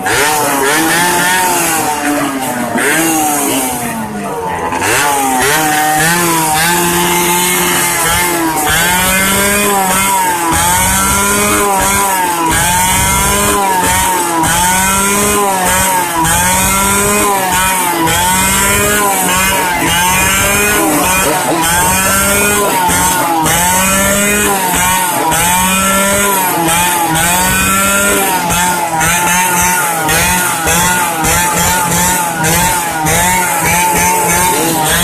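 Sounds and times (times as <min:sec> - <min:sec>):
motorcycle engine revving hard: 0:00.0 - 0:35.0.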